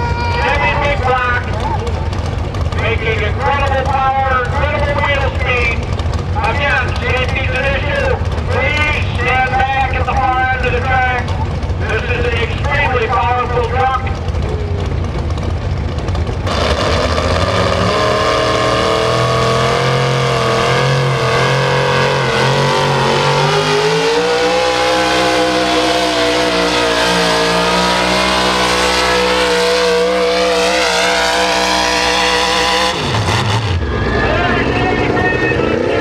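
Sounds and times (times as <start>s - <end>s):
truck engine under load: 0.0s - 36.0s.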